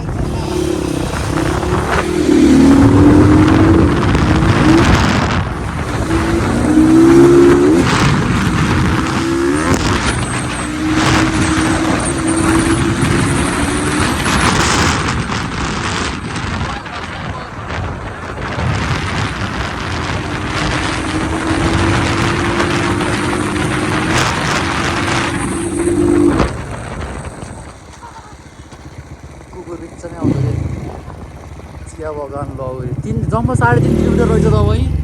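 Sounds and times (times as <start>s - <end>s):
wind noise on microphone: 0.0s - 29.3s
vehicle engine accelerating: 0.0s - 35.0s.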